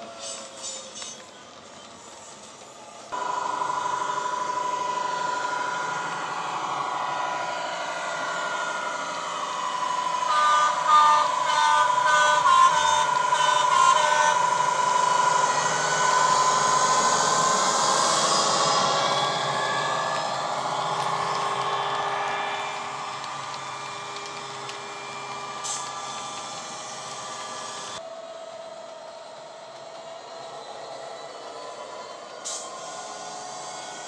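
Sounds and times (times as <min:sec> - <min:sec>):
model train diesel engine sound: 0:00.0 - 0:34.0.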